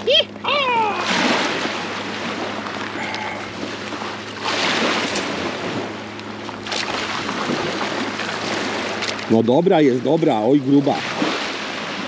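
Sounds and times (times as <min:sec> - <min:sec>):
boat low hum: 0:00.0 - 0:12.0
water rushing: 0:00.0 - 0:12.0.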